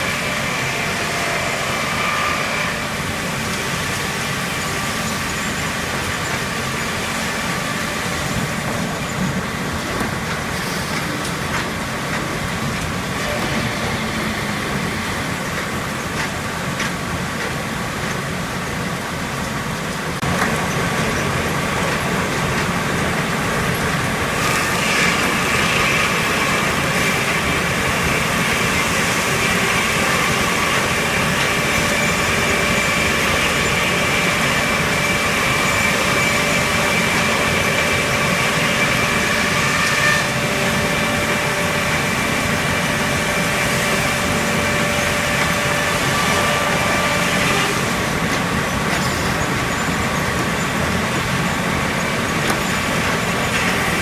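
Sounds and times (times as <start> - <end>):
high whine of saw: 0.0 - 9.7, 12.7 - 16.1, 23.2 - 54.0
sawmill machinery running: 0.0 - 54.0.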